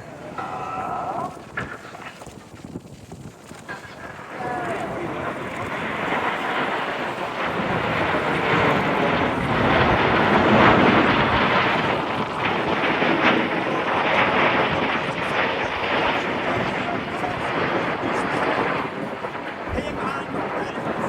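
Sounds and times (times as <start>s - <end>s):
fighter jet flying past: 3.6s - 21.0s.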